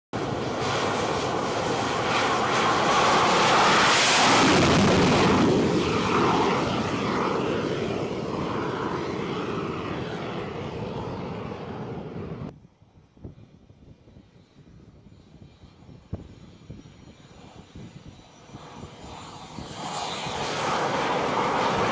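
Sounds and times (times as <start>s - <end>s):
jet engine roar: 0.2s - 21.9s.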